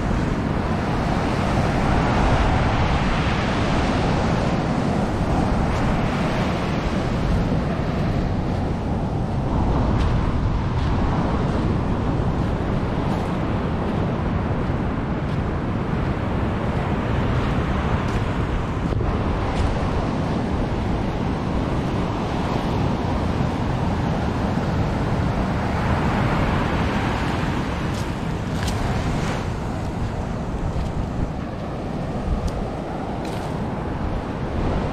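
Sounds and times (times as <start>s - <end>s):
wind rumbling on microphone: 0.0s - 34.9s.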